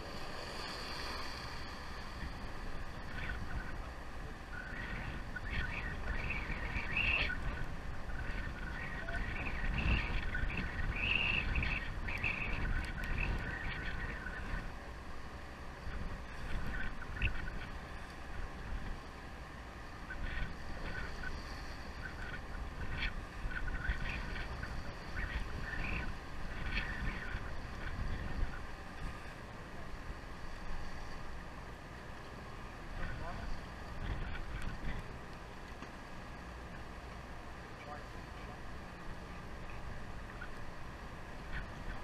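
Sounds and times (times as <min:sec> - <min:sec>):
sea water around boat hull: 0:00.0 - 0:42.0
wind rumble: 0:00.0 - 0:42.0.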